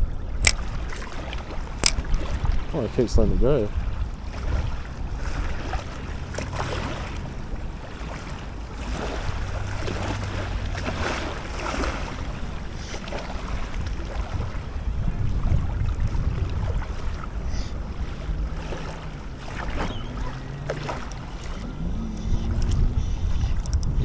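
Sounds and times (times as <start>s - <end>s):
small waves lapping: 0.0s - 24.0s
wind rumbling on microphone: 0.0s - 24.0s.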